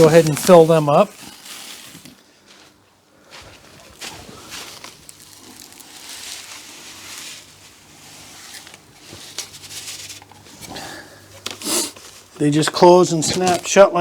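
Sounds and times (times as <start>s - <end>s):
feed pouring rustle: 0.0s - 2.2s, 3.6s - 13.8s.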